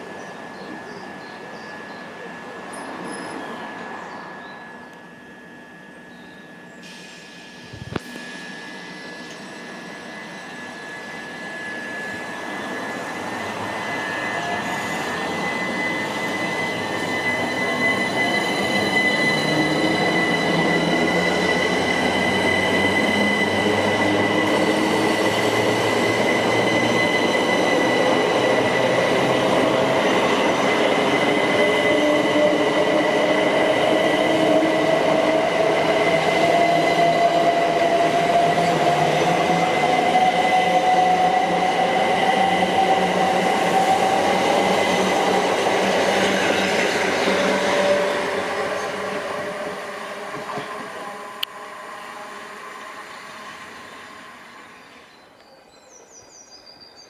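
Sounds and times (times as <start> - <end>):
electric train whine and rumble: 0.0 - 55.5.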